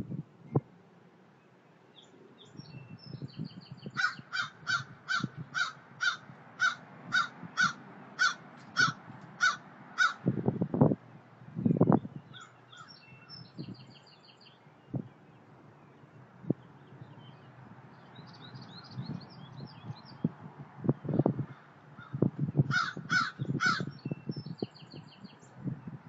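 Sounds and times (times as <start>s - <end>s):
bird loud evenly spaced calls: 1.3s - 10.3s, 11.8s - 20.4s, 21.0s - 25.6s.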